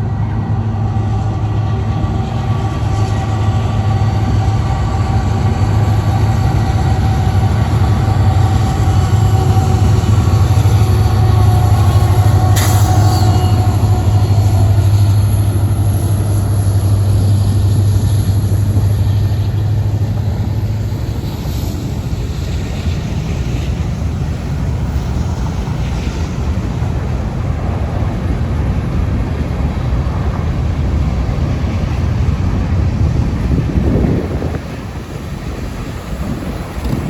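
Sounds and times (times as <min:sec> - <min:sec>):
freight train rolling on rails: 0:00.0 - 0:37.0
wind buffeting microphone: 0:00.0 - 0:37.0.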